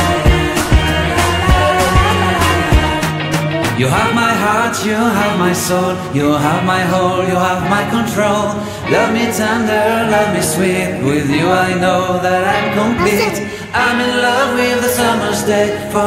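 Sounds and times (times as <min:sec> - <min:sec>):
pop song with singing: 0:00.0 - 0:16.0.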